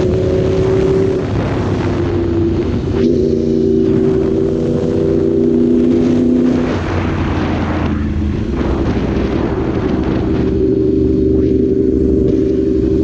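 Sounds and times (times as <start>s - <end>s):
motorcycle engine while riding: 0.0s - 13.0s
wind noise: 0.0s - 13.0s.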